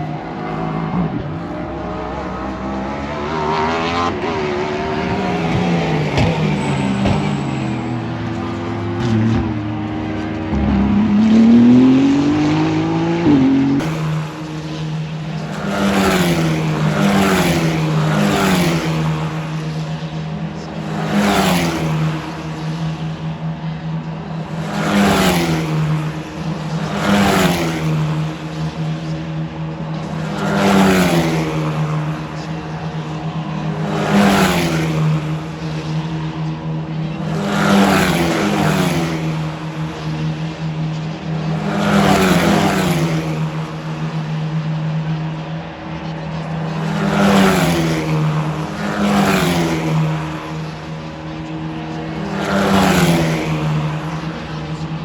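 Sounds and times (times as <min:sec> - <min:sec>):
racing cars passing at speed: 0:00.0 - 0:55.0.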